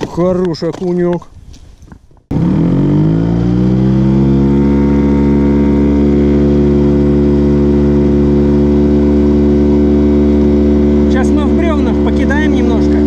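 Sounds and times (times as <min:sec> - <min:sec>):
outboard motor running: 0:02.3 - 0:13.0.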